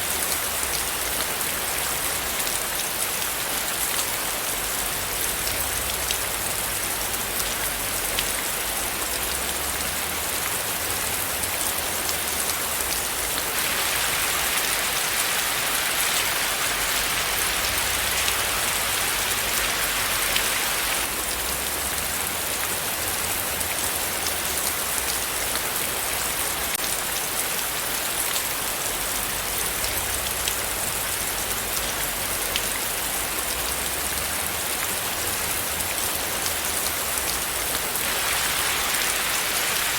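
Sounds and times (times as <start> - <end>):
rain pattering on surface: 0.0 - 39.9.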